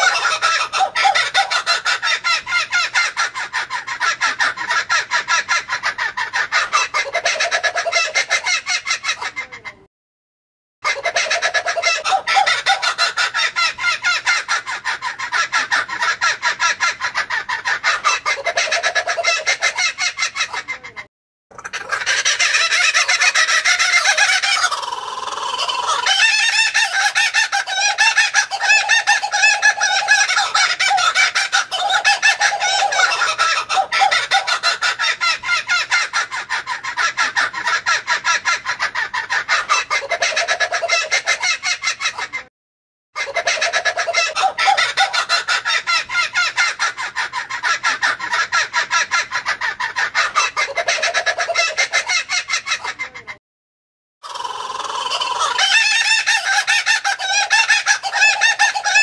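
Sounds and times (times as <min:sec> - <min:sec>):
kookaburra laughing call: 0:00.0 - 0:09.9, 0:10.9 - 0:21.0, 0:21.6 - 0:42.5, 0:43.2 - 0:53.4, 0:54.3 - 0:59.0.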